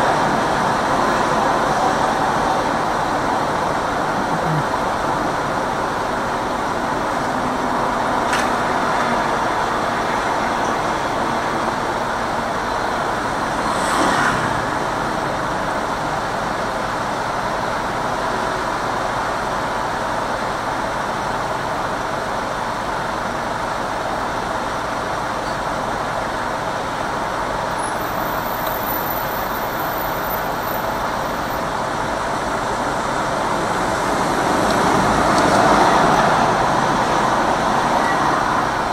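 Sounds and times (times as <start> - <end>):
traffic from inside a car: 0.0 - 38.9.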